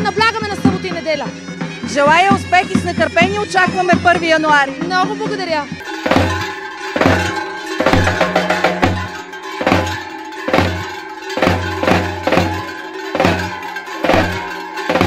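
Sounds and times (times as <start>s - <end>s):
bass drum beating: 0.0s - 15.0s
cowbells clanging: 0.0s - 15.0s.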